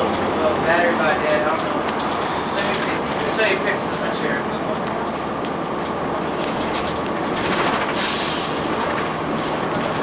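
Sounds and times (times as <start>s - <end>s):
bus body rattles: 0.0s - 10.0s
bus diesel engine running: 0.0s - 10.0s.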